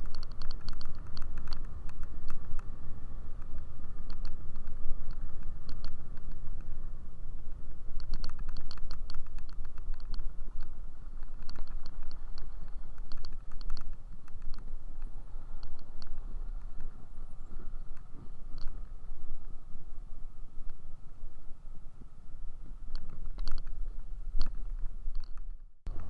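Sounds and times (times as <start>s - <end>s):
light clicking and rattling: 0.0s - 6.8s, 7.5s - 19.0s, 22.9s - 26.0s.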